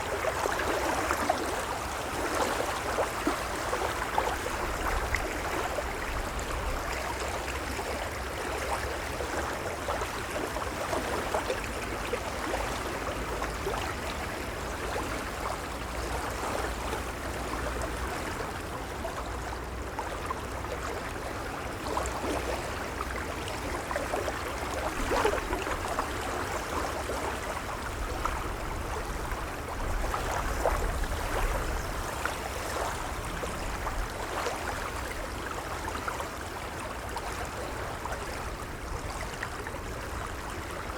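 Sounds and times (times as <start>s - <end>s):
gentle waves lapping: 0.0s - 40.9s.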